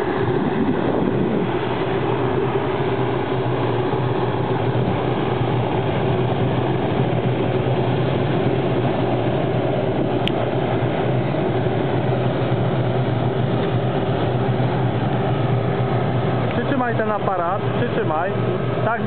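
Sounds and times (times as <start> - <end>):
helicopter engine and rotors droning: 0.0 - 19.0.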